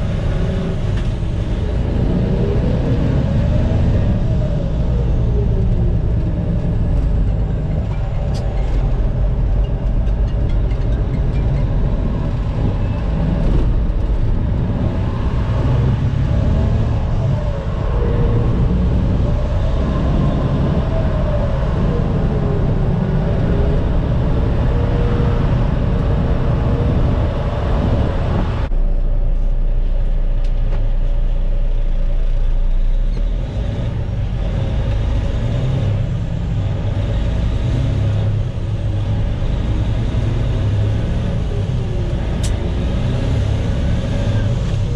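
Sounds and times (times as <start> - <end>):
diesel truck engine rumble: 0.0 - 44.9.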